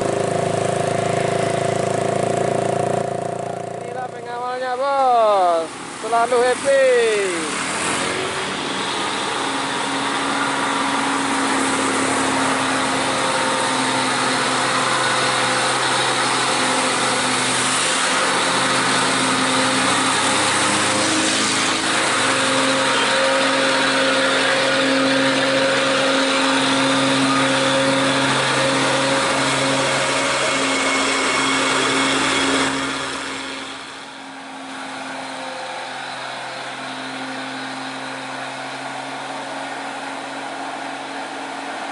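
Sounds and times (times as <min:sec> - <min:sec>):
truck diesel engine under load: 0:00.0 - 0:41.9.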